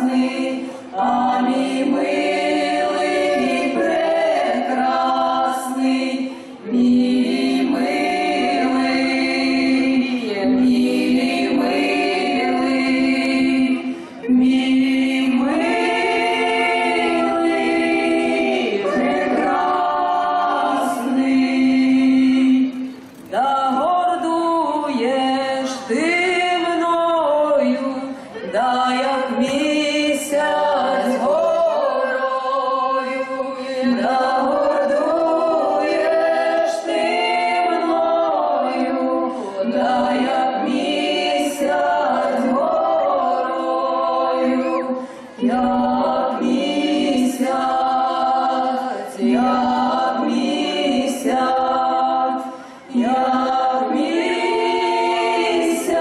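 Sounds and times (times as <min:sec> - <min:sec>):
women's choir singing unaccompanied: 0:00.0 - 0:56.0.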